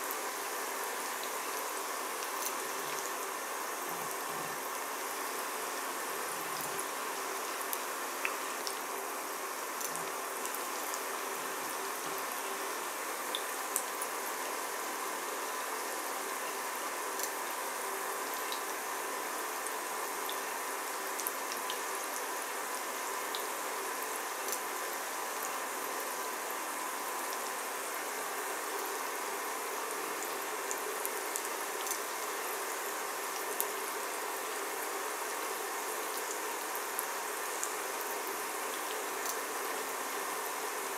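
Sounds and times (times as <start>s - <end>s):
faint steady hum: 0.0s - 40.9s
food sizzling in oil: 0.0s - 40.9s.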